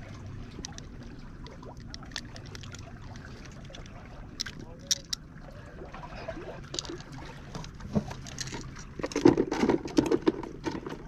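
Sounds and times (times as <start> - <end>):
water lapping against breakwater: 0.0 - 11.0
small clicks and knocks: 0.6 - 5.2, 6.7 - 11.0.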